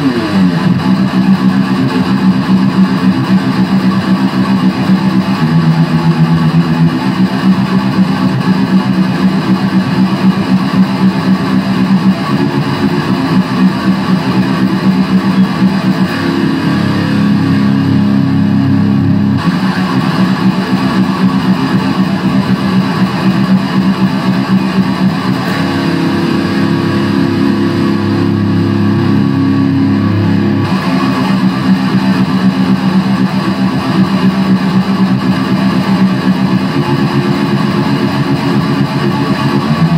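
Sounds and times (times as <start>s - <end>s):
heavy metal electric guitar: 0.0s - 39.9s.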